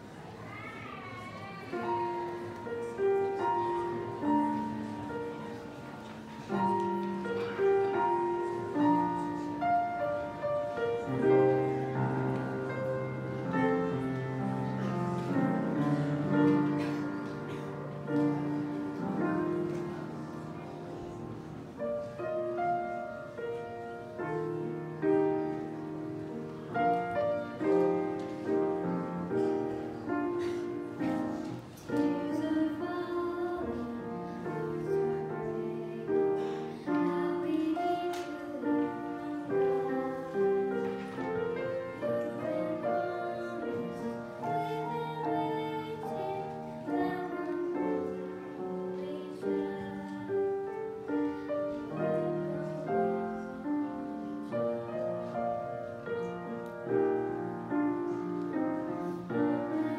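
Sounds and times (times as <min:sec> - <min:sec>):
grand piano playing: 0:01.6 - 0:59.9.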